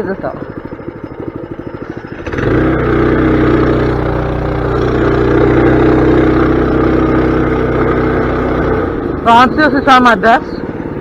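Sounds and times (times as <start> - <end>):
mini bike engine revving: 0.0 - 11.0.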